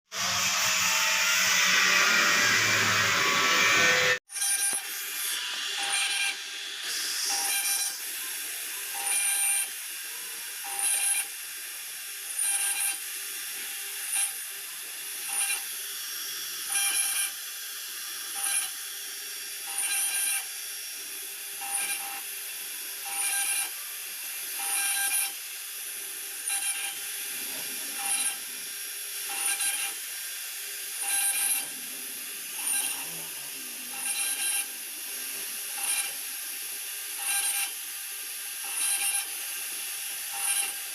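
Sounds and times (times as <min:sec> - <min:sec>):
router bit cutting board: 0:00.1 - 0:40.9
router spindle whining: 0:00.1 - 0:40.9.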